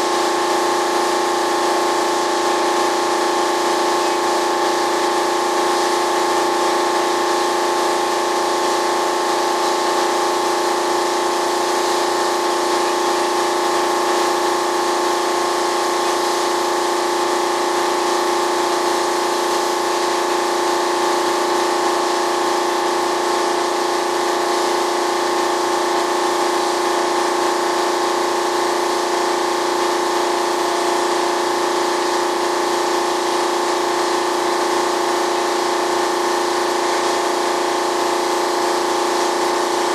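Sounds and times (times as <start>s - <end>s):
machine hum: 0.0s - 39.9s
paint spray gun hissing: 0.0s - 39.9s.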